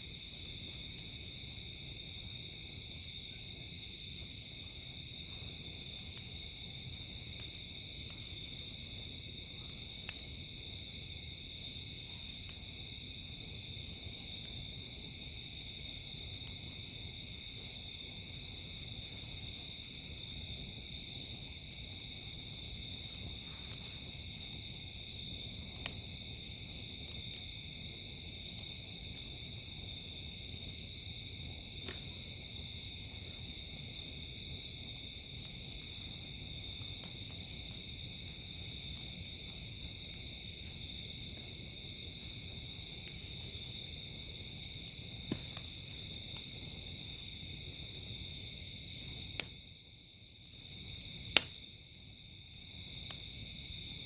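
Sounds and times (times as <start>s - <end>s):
campfire crackling: 0.0s - 54.0s
insect chorus: 0.0s - 54.0s.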